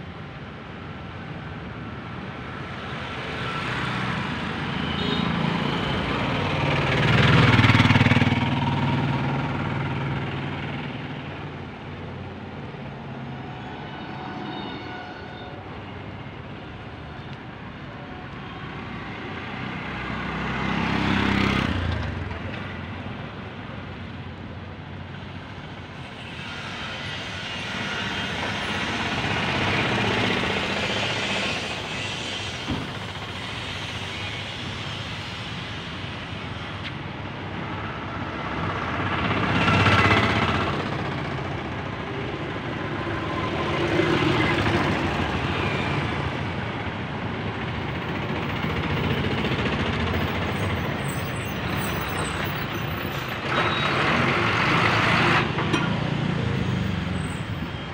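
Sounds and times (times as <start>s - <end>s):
vehicles passing: 0.0s - 57.9s.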